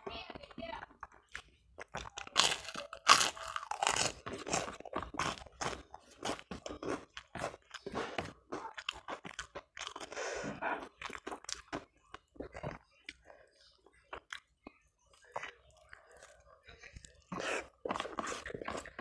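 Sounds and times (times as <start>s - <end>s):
chewing crunchy food: 0.2s - 19.0s.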